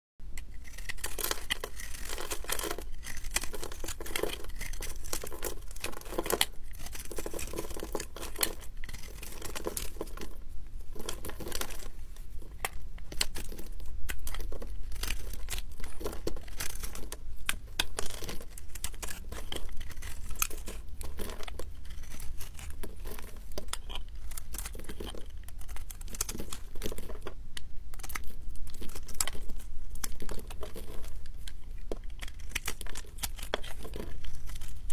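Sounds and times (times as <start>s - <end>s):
knife carving soap: 0.2s - 34.9s.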